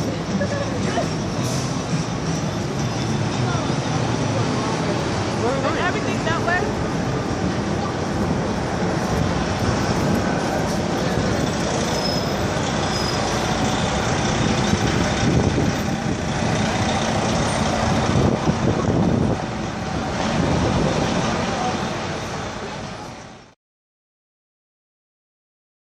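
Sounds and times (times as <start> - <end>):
street traffic rumble: 0.0 - 23.6.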